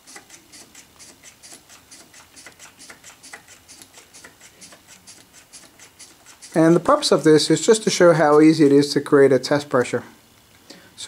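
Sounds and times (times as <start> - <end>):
hand pump strokes: 0.0 - 9.0.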